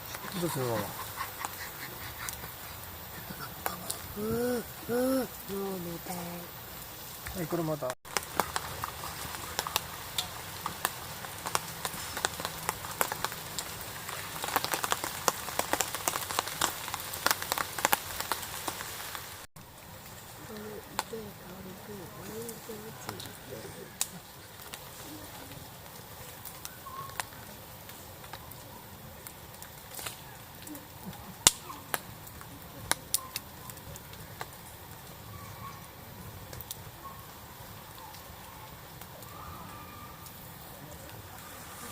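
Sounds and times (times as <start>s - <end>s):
campfire wood crackling: 0.0s - 41.9s
faint steady hiss: 0.0s - 41.9s
rain drops ticking on a surface: 0.0s - 41.9s.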